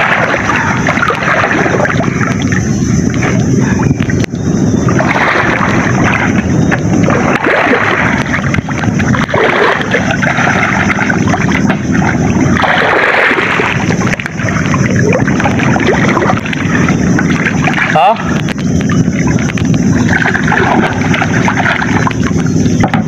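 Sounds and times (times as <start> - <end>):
floodwater sloshing and splashing: 0.0 - 23.0
steady low rumble: 0.0 - 23.0.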